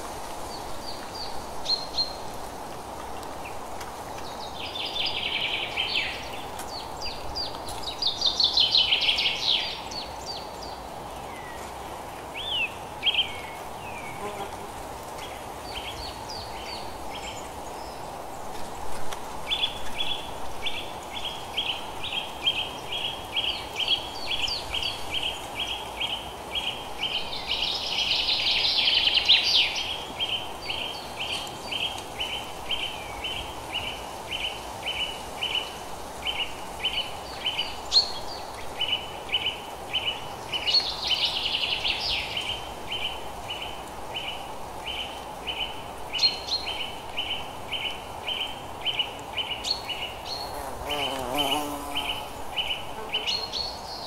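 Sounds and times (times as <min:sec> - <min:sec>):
steady low hiss: 0:00.0 - 0:54.0
bird song: 0:00.5 - 0:02.2, 0:03.2 - 0:14.5, 0:15.2 - 0:18.6, 0:19.5 - 0:54.0.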